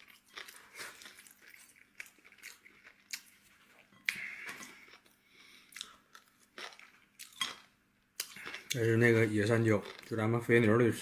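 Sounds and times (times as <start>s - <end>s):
person chewing food: 0.0s - 10.2s.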